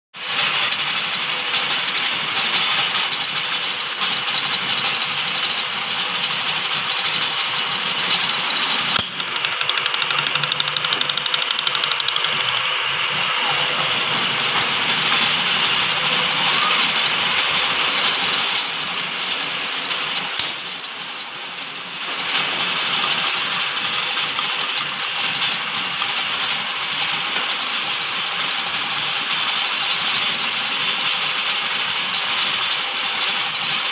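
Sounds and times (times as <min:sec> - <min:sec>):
lathe machining noise: 0:00.2 - 0:33.9.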